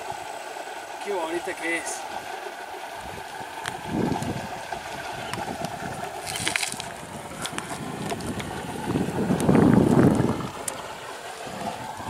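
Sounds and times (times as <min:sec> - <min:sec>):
running water: 0:00.0 - 0:12.0
wind buffeting microphone: 0:02.1 - 0:12.0.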